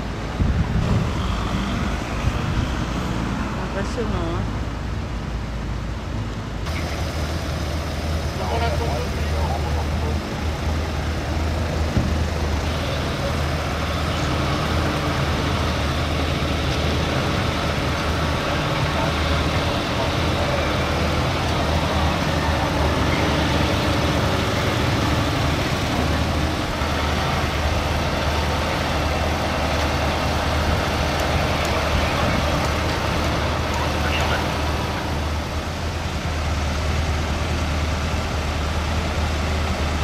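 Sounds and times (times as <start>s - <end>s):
diesel truck engines rumbling: 0.0s - 40.0s
road noise: 0.0s - 40.0s.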